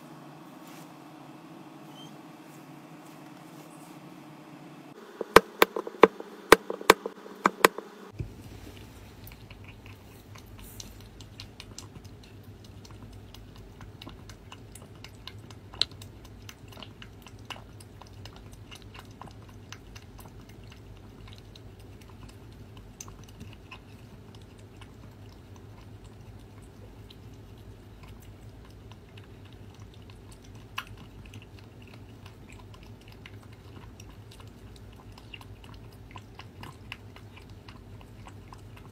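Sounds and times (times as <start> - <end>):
cat chewing and lapping: 5.0 - 38.9.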